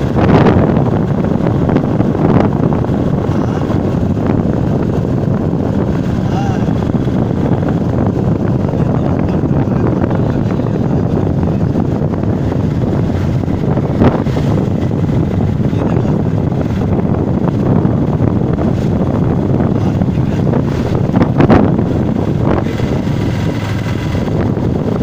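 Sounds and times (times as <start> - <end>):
vehicle running noise: 0.0 - 25.0
wind rushing over microphone: 0.0 - 25.0.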